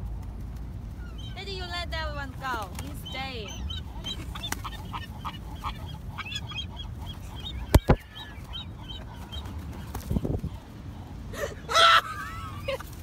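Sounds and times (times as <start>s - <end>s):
flock of birds calling: 0.8s - 13.0s.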